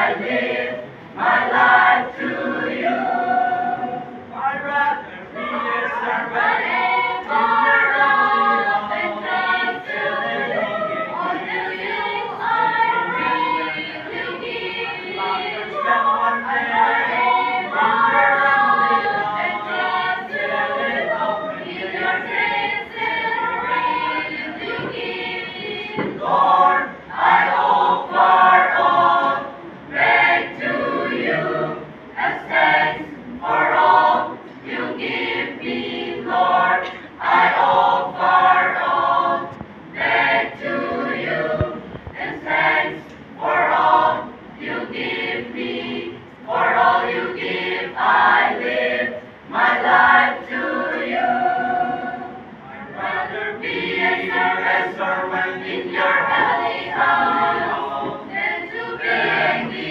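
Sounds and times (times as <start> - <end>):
mixed choir singing: 0.0 - 59.9.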